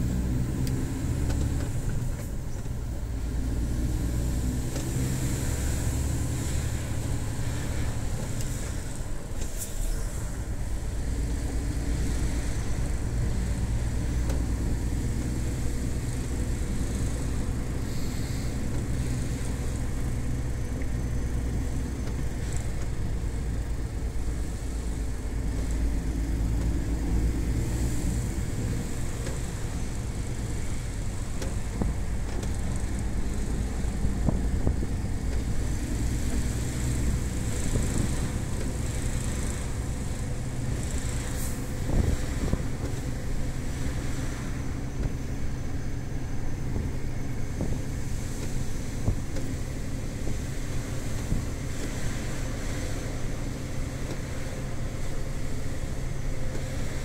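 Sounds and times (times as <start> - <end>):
diesel engine drone in cab: 0.0 - 57.0
road noise: 0.0 - 57.0.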